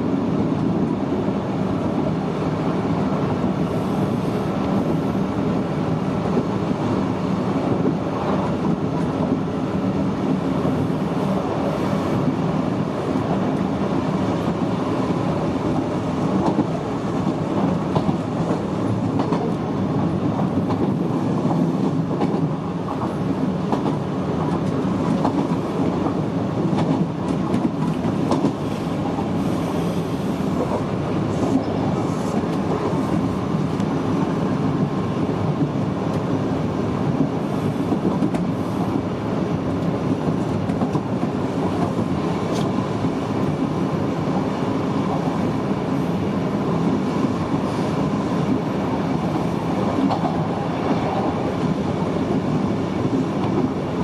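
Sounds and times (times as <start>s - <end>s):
train wheels on rail: 0.0s - 54.0s.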